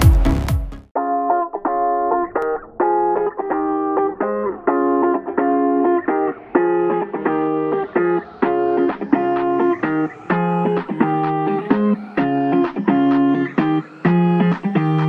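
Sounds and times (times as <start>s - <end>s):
plucked guitar chords: 0.0s - 15.0s.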